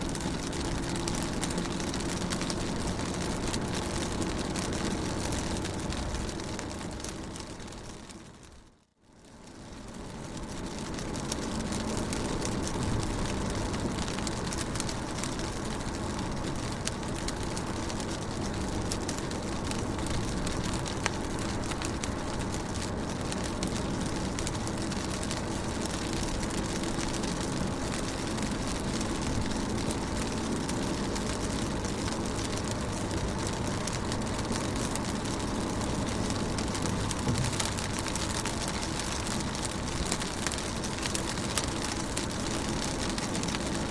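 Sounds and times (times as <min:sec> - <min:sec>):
rain on car windows and roof: 0:00.0 - 0:43.9.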